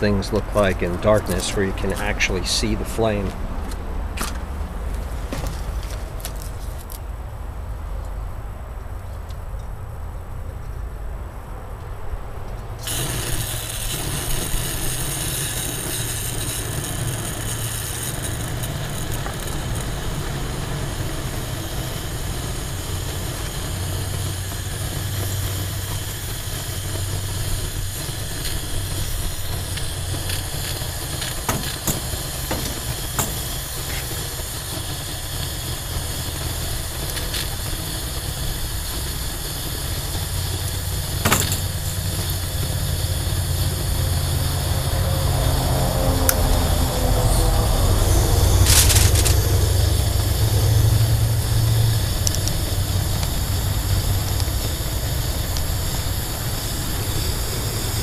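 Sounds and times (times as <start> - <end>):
camp stove burner hissing: 0.0 - 7.0, 12.8 - 58.0.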